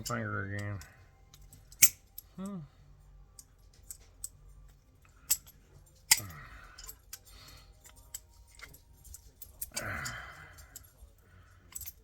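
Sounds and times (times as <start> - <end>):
metal hardware clicking and knocking: 0.0 - 2.3, 3.3 - 11.0, 11.7 - 12.0.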